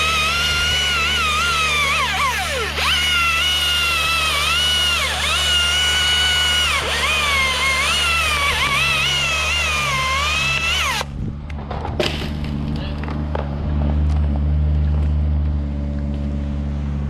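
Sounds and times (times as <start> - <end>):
chainsaw cutting wood: 0.0 - 15.2.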